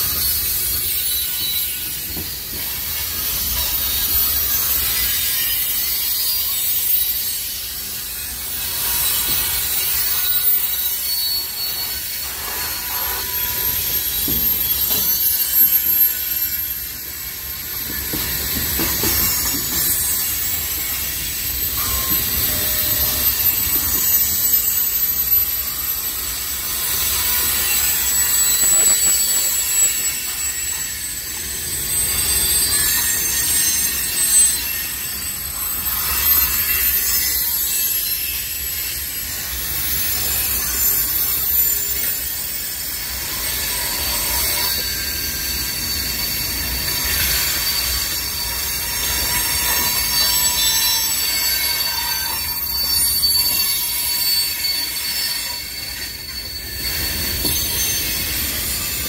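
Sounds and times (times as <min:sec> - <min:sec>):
freight train wheels rumbling on rail: 0:00.0 - 0:59.0
high-pitched wheel squeal: 0:00.0 - 0:59.0.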